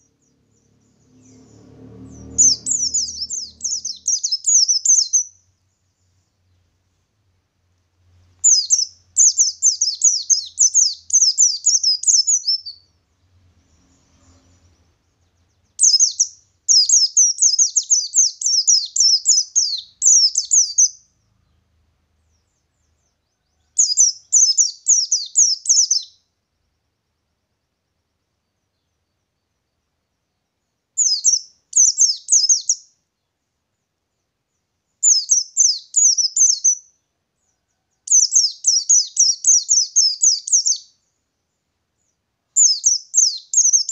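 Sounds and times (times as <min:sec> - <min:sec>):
bird chirping song: 0:00.0 - 0:43.9.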